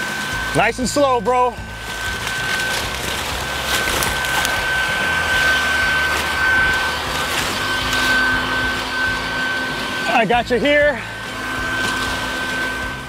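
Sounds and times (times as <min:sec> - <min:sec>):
vacuum motor whining: 0:00.0 - 0:13.0.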